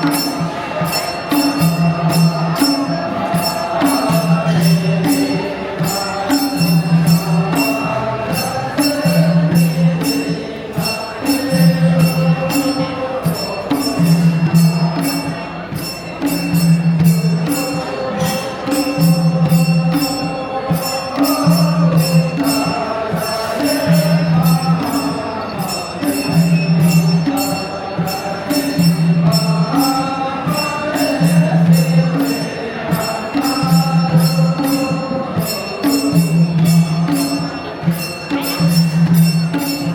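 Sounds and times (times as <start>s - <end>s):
jingling percussion: 0.0s - 39.9s.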